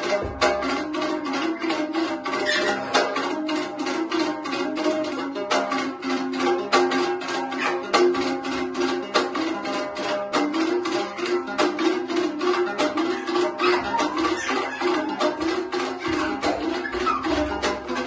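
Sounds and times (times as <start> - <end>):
lute strumming: 0.0 - 18.0.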